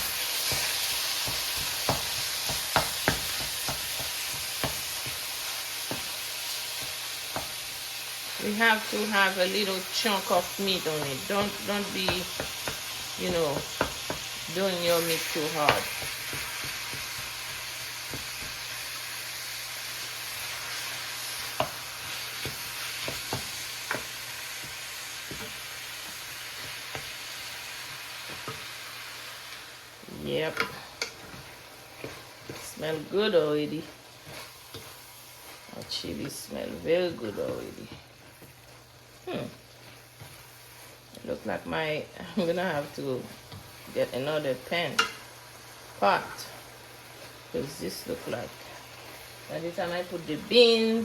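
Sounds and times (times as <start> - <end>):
meat sizzling in oil: 0.0 - 51.0.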